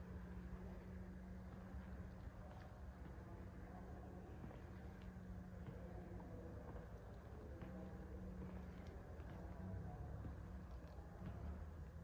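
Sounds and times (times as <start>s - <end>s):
low hum and rumble: 0.0s - 12.0s.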